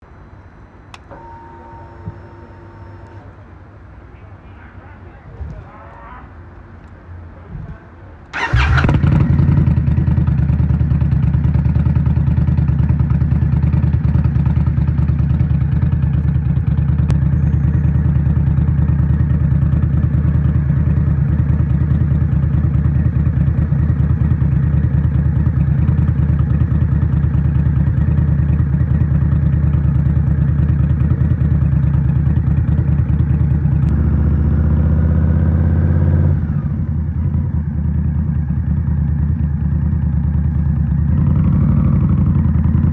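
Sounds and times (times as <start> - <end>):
motorcycle starting and idling: 0.9 - 3.4, 8.2 - 42.9.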